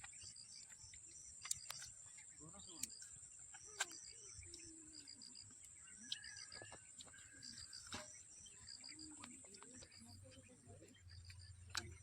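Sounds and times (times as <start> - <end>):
insect chirps: 0.0 - 12.0.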